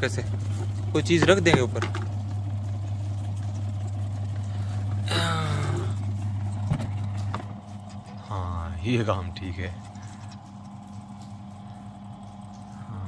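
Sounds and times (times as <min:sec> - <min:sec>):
spin dryer motor hum: 0:00.0 - 0:13.0.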